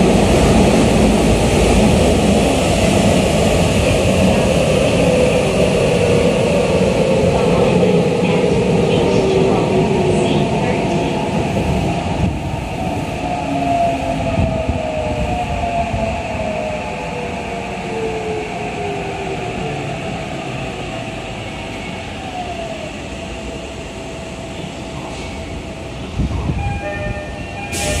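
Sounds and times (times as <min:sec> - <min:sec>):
train running noise: 0:00.0 - 0:17.1, 0:18.6 - 0:28.0.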